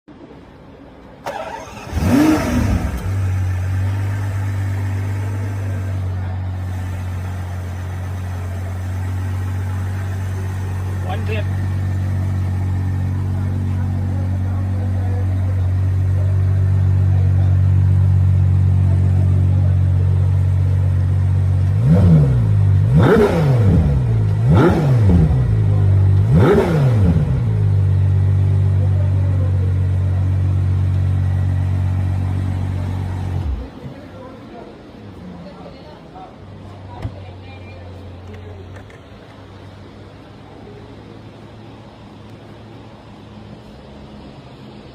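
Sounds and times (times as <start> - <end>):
car engine idling and revving: 0.1 - 44.9.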